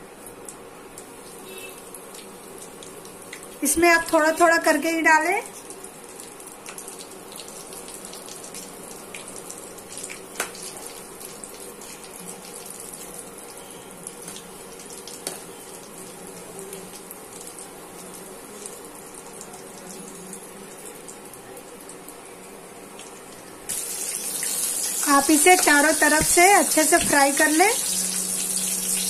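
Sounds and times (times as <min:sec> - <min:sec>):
chicken deep-frying in oil: 0:00.0 - 0:29.0.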